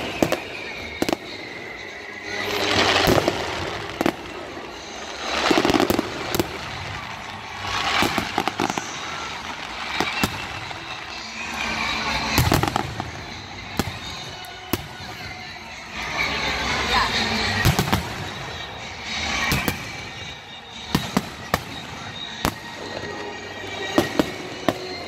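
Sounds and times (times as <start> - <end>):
fireworks bursting with bangs: 0.0 - 25.0
fireworks crackling: 0.0 - 25.0.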